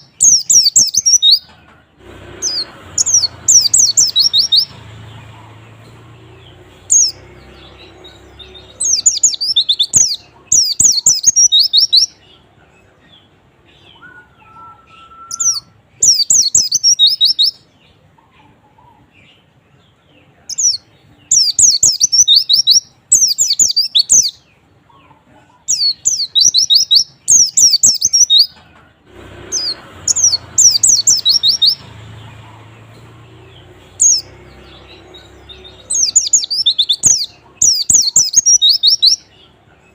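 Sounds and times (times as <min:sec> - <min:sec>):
bird twittering: 0:00.0 - 0:01.5, 0:02.4 - 0:12.4, 0:13.1 - 0:17.7, 0:20.5 - 0:28.6, 0:29.5 - 0:39.9.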